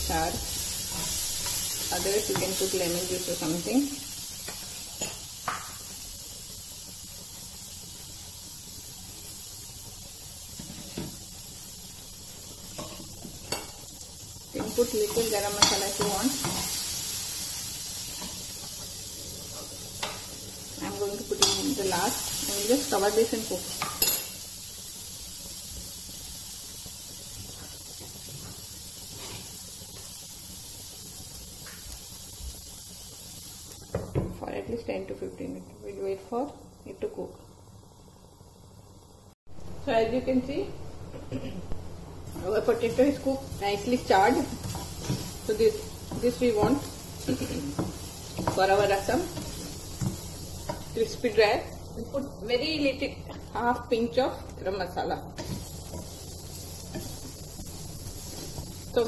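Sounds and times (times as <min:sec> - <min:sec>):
potatoes sizzling in a pan: 0:00.0 - 0:59.0.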